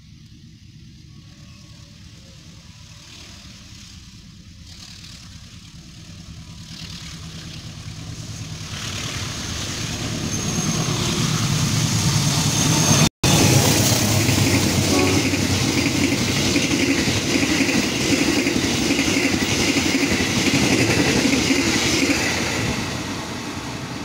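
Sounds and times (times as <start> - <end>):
locomotive engine drone: 0.0 - 24.0
train wheels rumbling on rails: 0.0 - 24.0.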